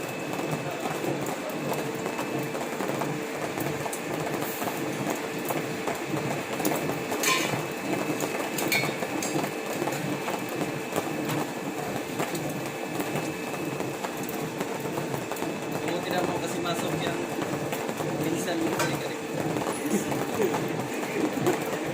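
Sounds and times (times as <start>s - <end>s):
line boring machine humming: 0.0s - 21.9s.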